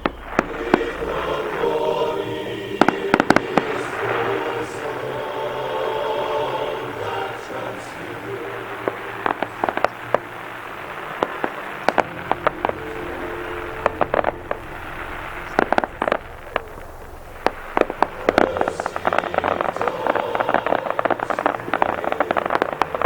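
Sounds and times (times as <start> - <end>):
fireworks popping and crackling: 0.0 - 23.0.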